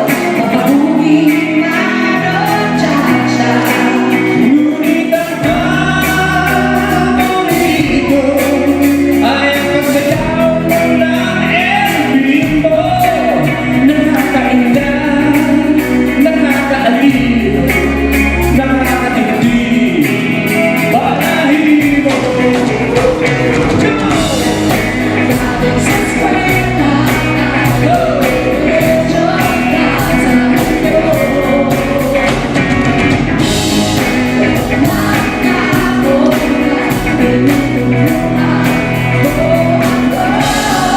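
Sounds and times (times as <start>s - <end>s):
lead vocalist singing: 0.0s - 40.9s
live band playing pop-rock: 0.0s - 40.9s.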